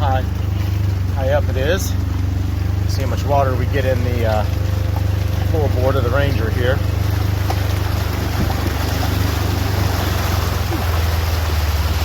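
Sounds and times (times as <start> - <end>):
utility vehicle engine humming: 0.0 - 12.0
water rushing and splashing: 0.0 - 12.0.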